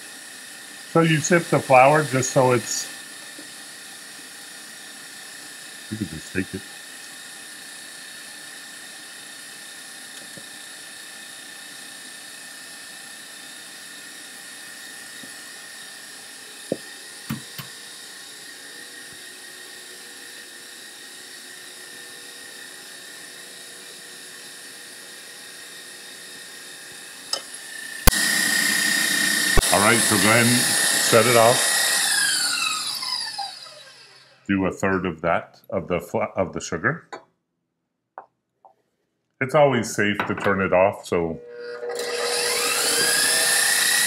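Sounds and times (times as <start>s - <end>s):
stand mixer whining: 0.0s - 34.5s, 41.3s - 44.0s.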